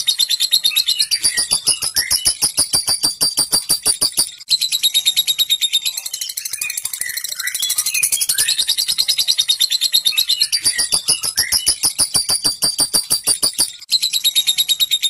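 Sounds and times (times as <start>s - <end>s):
lovebird chattering song: 0.0s - 15.0s.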